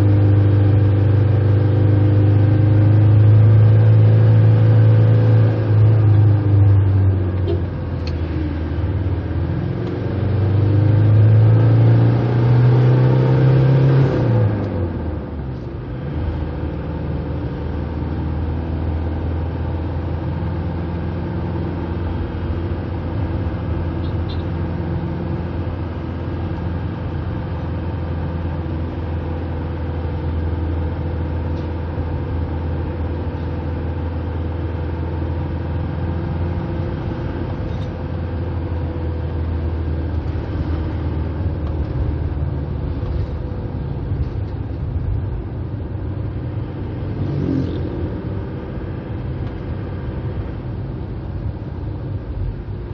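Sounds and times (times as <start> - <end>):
car engine accelerating: 0.0 - 52.9
road noise: 0.0 - 52.9.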